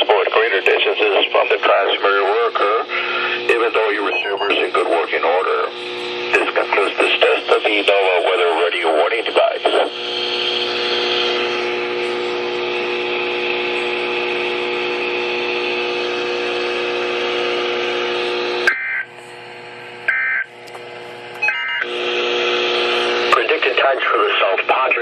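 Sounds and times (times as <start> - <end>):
radio receiver hissing: 0.0 - 25.0
steady low hum: 0.0 - 25.0.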